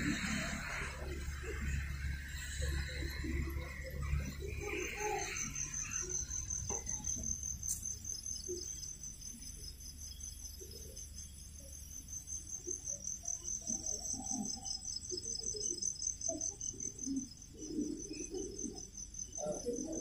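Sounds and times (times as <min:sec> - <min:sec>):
night insects chirping: 0:00.0 - 0:20.0.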